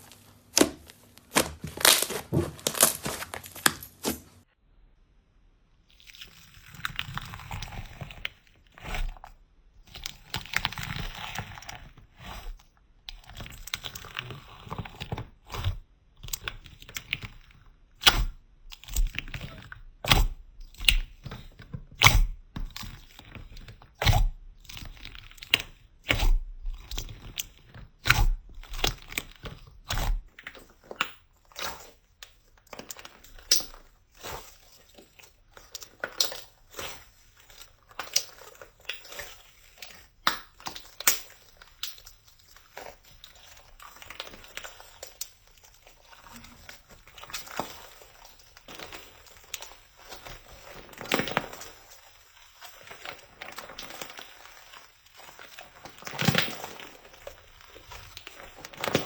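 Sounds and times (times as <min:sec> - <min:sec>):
slime squishing by hand: 0:00.0 - 0:04.4, 0:13.2 - 0:59.0.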